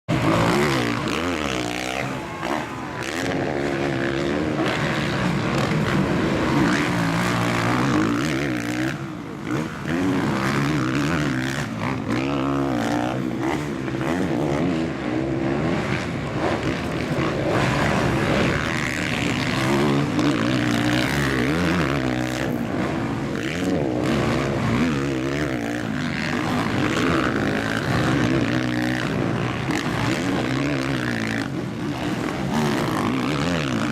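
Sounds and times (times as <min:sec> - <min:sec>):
motocross bikes revving: 0:00.1 - 0:33.9.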